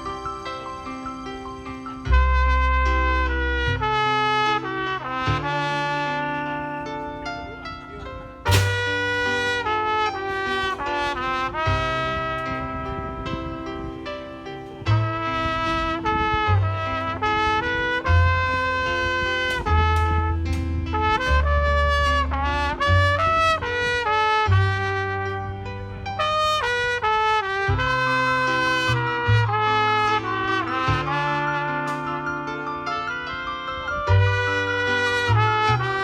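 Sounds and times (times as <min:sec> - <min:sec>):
trumpet melody: 0:00.0 - 0:36.0
low bass notes: 0:01.8 - 0:36.0.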